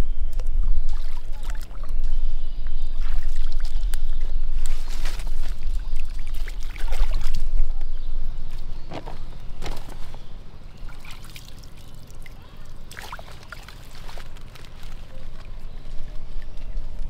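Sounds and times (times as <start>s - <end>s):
water trickling and sloshing: 0.3s - 17.0s.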